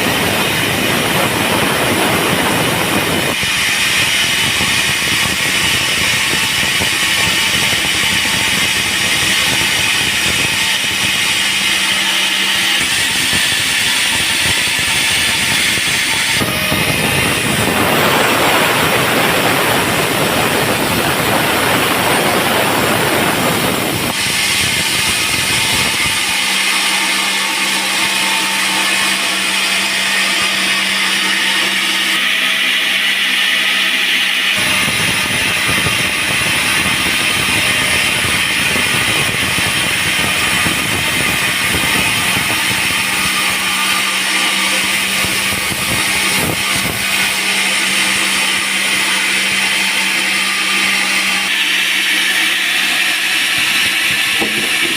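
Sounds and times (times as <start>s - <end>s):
band sawmill running: 0.0s - 54.9s.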